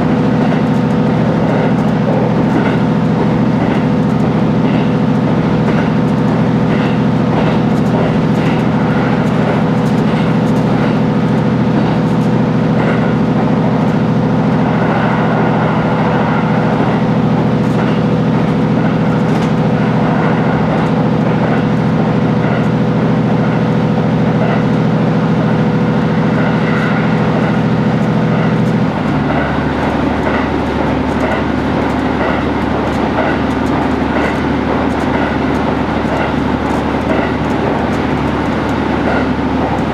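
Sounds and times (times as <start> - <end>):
railcar engine drone: 0.0 - 39.9
wheels clicking on rails: 0.0 - 39.9.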